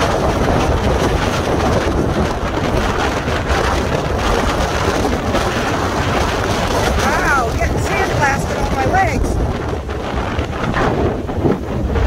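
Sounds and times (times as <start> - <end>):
storm wind buffeting microphone: 0.0 - 12.0
waves breaking on shore: 0.0 - 12.0.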